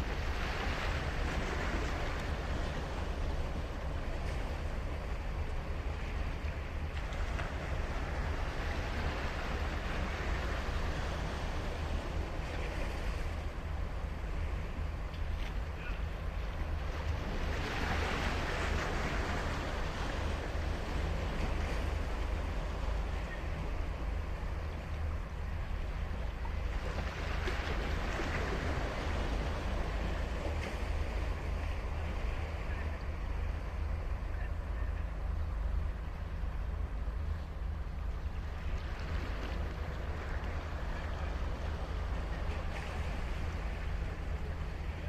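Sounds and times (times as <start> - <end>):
ocean waves breaking on beach: 0.0 - 45.0.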